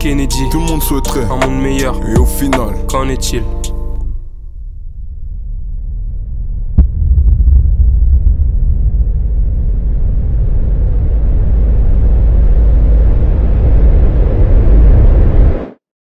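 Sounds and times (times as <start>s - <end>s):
cinematic riser rumble and hiss: 1.5s - 15.8s.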